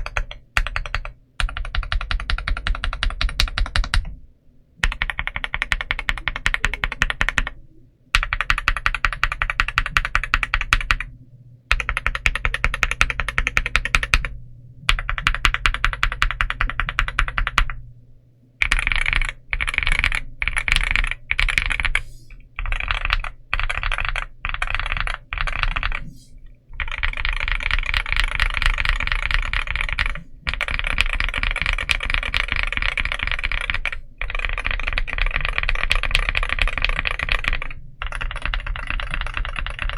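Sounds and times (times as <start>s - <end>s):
mechanical keyboard typing: 0.0s - 4.2s, 4.8s - 7.6s, 8.2s - 11.1s, 11.7s - 14.3s, 14.9s - 17.8s, 18.6s - 26.1s, 26.7s - 39.9s.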